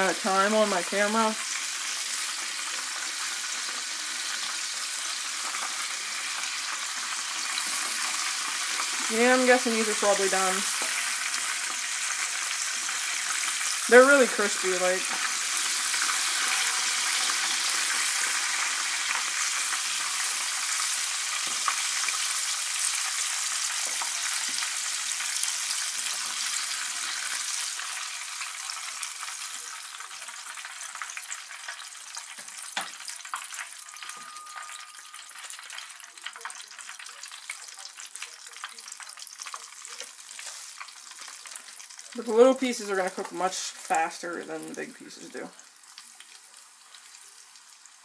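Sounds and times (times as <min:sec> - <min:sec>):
deep-frying sizzle with pops: 0:00.0 - 0:48.0.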